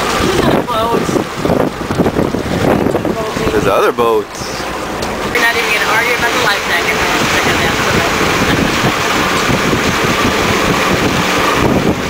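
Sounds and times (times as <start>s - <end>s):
rush of water from boat wake: 0.0s - 12.0s
wind buffeting the microphone: 0.0s - 12.0s.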